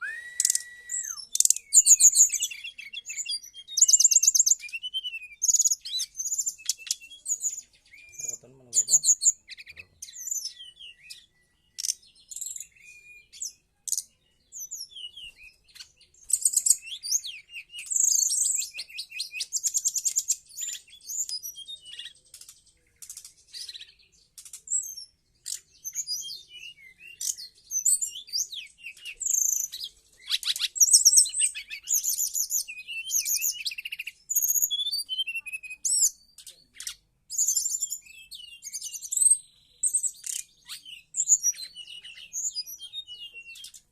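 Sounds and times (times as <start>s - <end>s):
bird singing chirps and trills: 0.0s - 43.9s.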